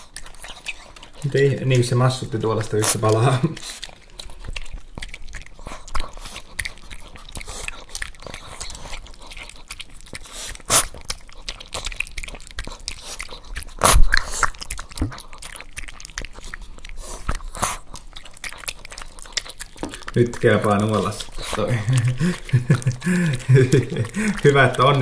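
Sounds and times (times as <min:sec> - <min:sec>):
dog crunching a treat: 0:00.0 - 0:25.0.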